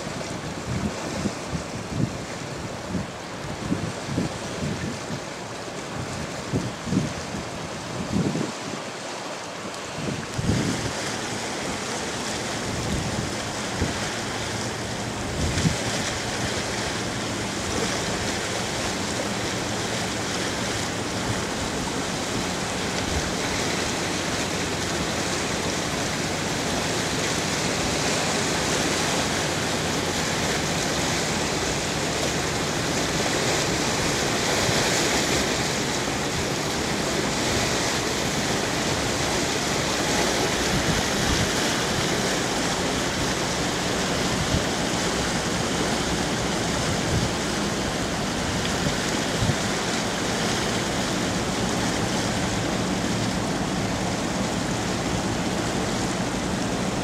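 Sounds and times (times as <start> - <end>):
rushing water of bow wave: 0.0 - 57.0.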